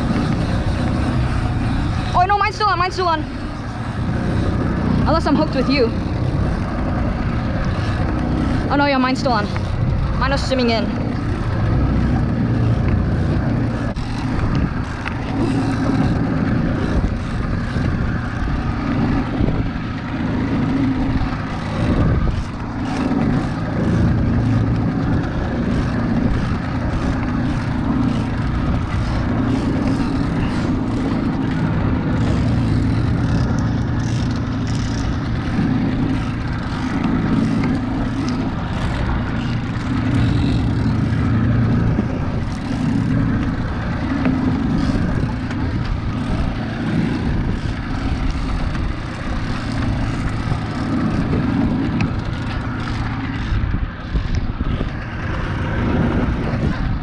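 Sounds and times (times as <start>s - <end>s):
outboard motor running: 0.0s - 57.0s
wind buffeting: 0.0s - 57.0s.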